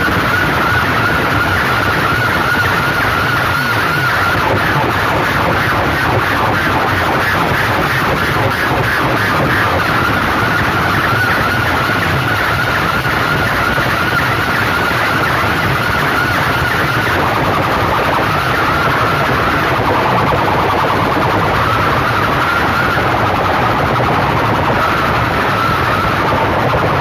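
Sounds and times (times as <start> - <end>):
distorted loudspeaker din: 0.0 - 27.0
wavering siren-like tone: 0.0 - 27.0.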